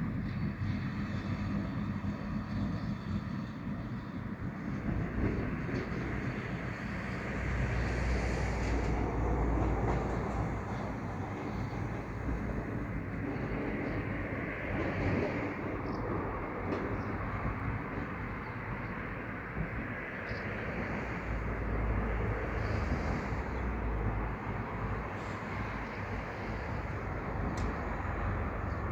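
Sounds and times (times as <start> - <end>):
train rail noise: 0.0 - 28.9.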